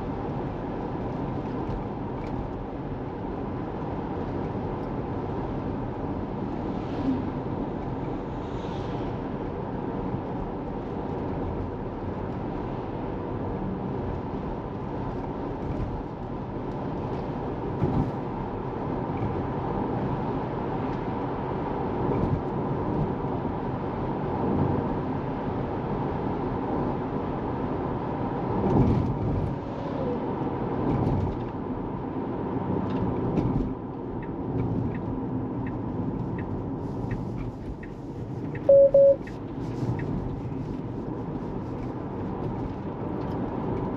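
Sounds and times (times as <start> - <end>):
road and tyre noise inside car: 0.0 - 43.9.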